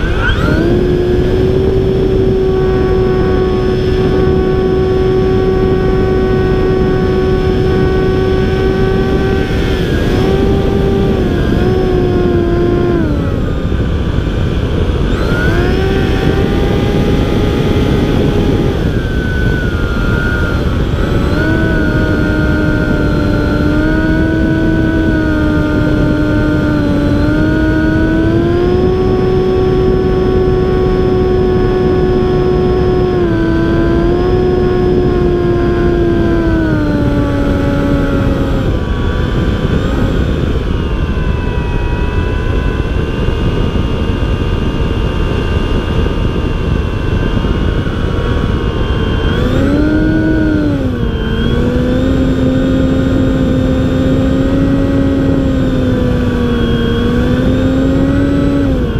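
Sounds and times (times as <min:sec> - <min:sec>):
model airplane motor whine: 0:00.0 - 0:58.9
wind rumble: 0:00.0 - 0:58.9.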